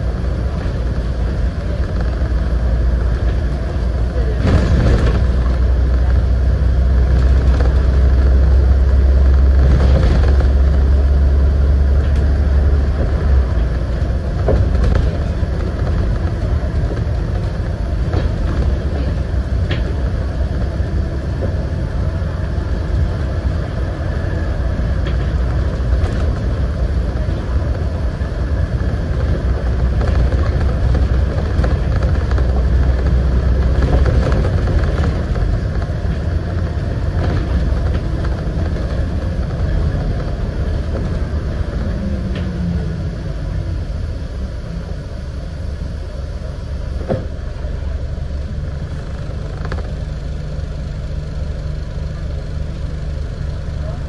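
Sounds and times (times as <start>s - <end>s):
bus diesel engine drone: 0.0s - 54.0s
tyre and road noise: 0.0s - 54.0s.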